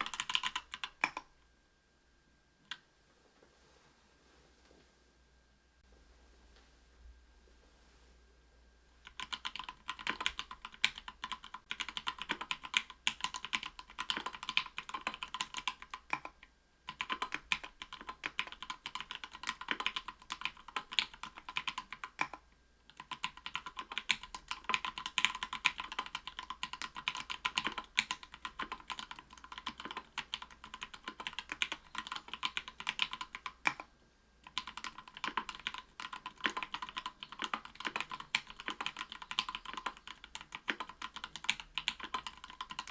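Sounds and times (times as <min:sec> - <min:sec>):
typing on mechanical keyboard: 0:00.0 - 0:01.3, 0:09.0 - 0:42.9.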